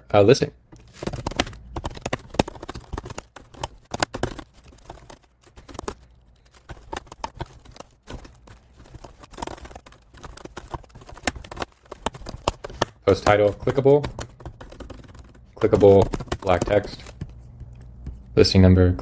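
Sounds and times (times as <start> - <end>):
keyboard typing clicks: 1.0 - 18.0.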